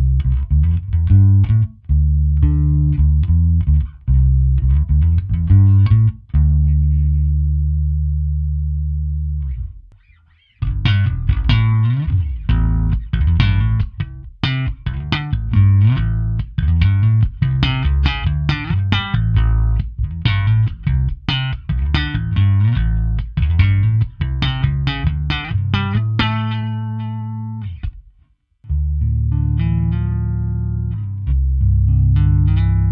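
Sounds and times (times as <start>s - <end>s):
electric bass notes: 0.0s - 32.9s.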